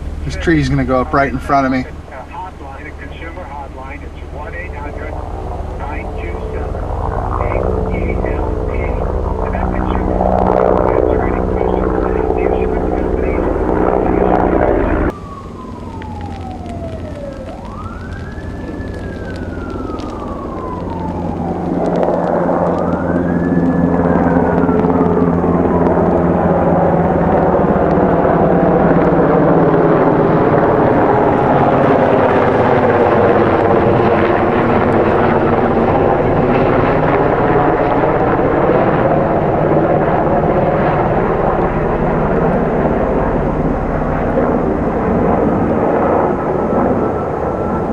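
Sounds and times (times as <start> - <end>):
engine rumble: 0.0 - 47.9
siren wailing: 0.0 - 47.9.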